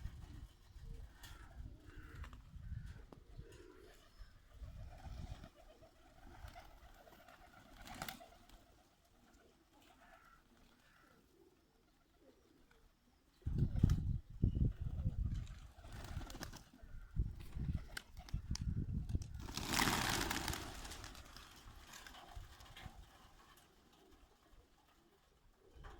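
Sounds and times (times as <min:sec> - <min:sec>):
pigeons cooing softly: 0:00.0 - 0:25.9.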